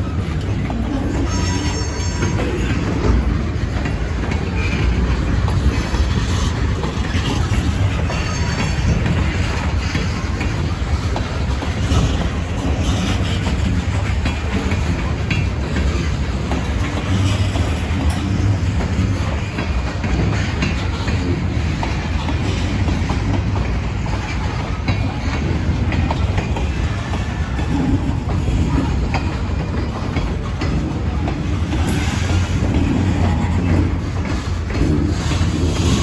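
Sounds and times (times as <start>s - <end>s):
freight cars rolling on rails: 0.0s - 36.0s
wheels clicking over rail joints: 0.0s - 36.0s.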